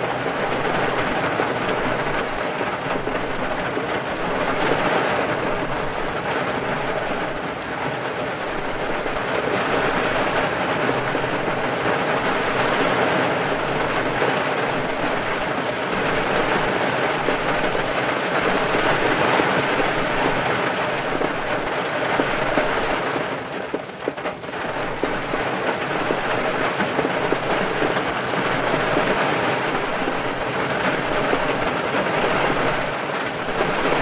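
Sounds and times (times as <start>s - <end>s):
heavy rain on car roof: 0.0s - 34.0s.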